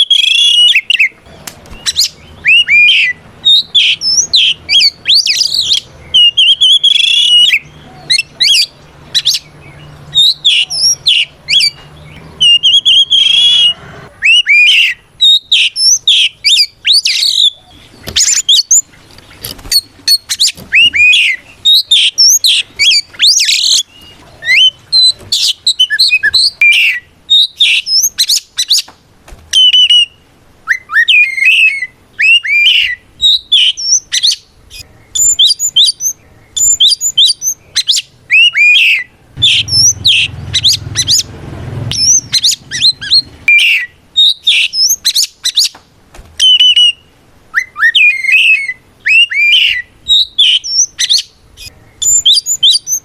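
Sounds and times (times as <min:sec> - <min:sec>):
songbird singing whistles and trills: 0:00.0 - 0:28.9, 0:29.5 - 0:41.3, 0:41.9 - 0:45.8, 0:46.4 - 0:53.0.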